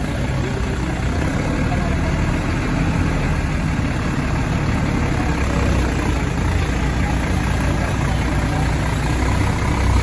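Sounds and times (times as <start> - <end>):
large vehicle engine idling: 0.0 - 10.0.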